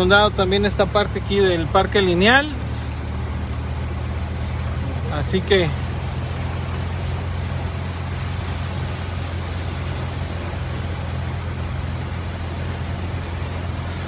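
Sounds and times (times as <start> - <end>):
engine and road hum: 0.0 - 14.0
tyres hissing through water: 0.0 - 14.0.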